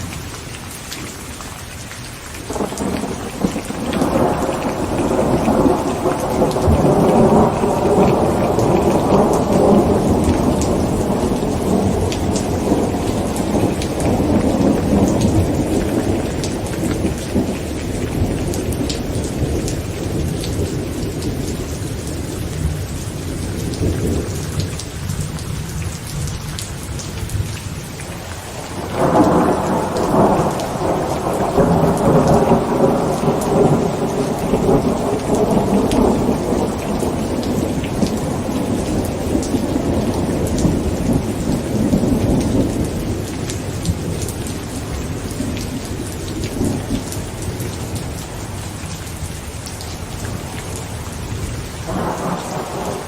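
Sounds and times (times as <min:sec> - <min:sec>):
heavy rain on a tent: 0:00.0 - 0:53.0
rolling thunder: 0:02.5 - 0:24.8, 0:28.5 - 0:48.2, 0:51.2 - 0:53.0.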